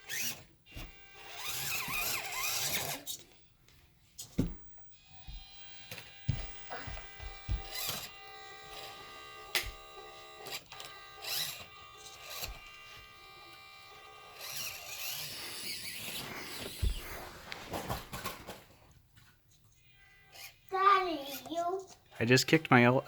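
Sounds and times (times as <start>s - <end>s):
small electric motor whining: 0.0s - 3.4s, 4.9s - 18.6s, 19.8s - 22.2s.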